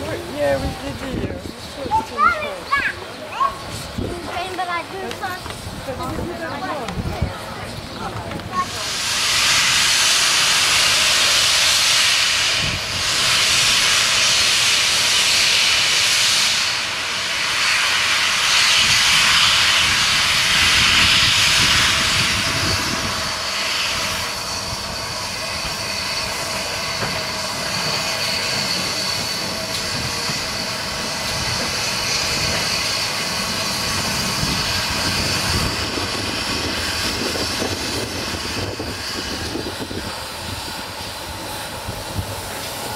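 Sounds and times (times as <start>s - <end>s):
steam locomotive hissing: 0.0s - 42.9s.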